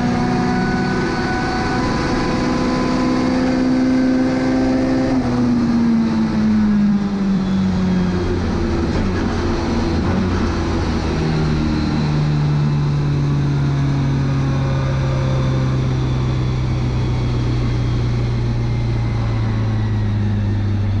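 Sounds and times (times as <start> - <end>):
car engine slowing down: 0.0 - 21.0.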